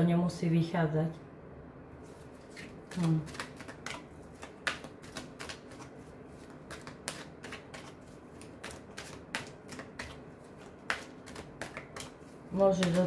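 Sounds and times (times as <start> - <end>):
cards being shuffled: 2.0 - 13.0.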